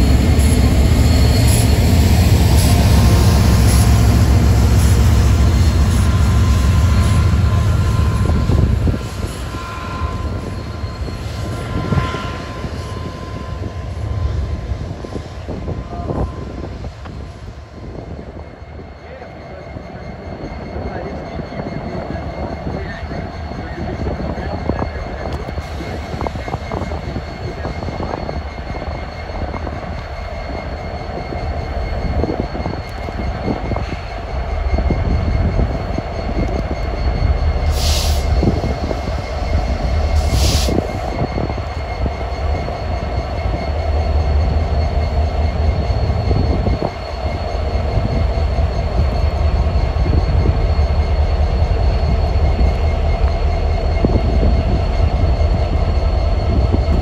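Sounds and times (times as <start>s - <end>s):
freight train locomotives rumbling: 0.0s - 57.0s
steady whine: 0.0s - 57.0s.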